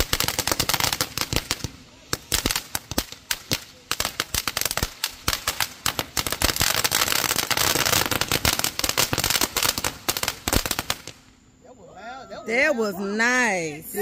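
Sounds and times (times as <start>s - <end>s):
firework fountain crackling: 0.0s - 11.3s.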